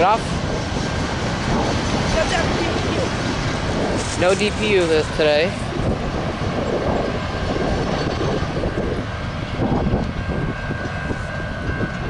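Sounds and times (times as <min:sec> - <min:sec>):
freight train passing: 0:00.0 - 0:12.0.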